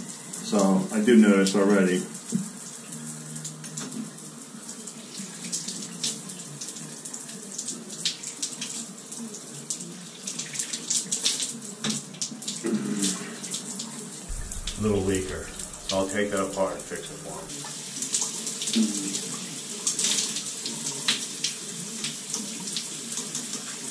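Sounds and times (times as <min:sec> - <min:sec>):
shower water spraying on tiles: 0:00.0 - 0:23.9.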